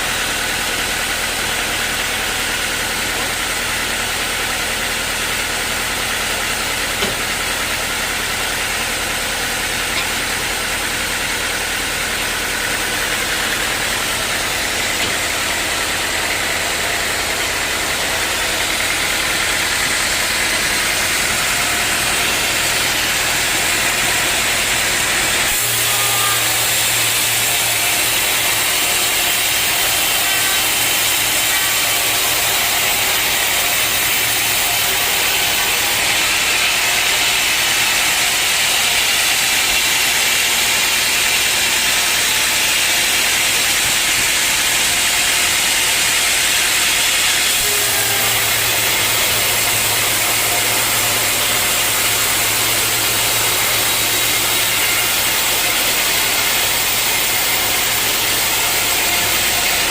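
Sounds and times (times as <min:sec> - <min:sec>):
sawmill saw hissing: 0:00.0 - 0:59.9
motor hum: 0:02.0 - 0:59.9.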